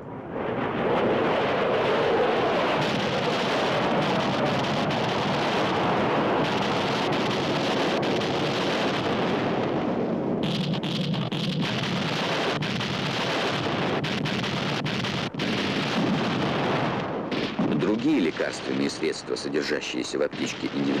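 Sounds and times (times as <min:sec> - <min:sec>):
explosions: 0:00.0 - 0:21.0.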